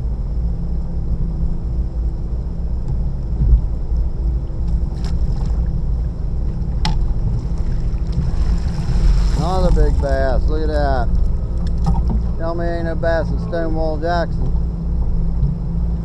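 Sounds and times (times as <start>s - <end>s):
boat motor rumbling: 0.0s - 16.0s
faint high whine: 0.0s - 16.0s.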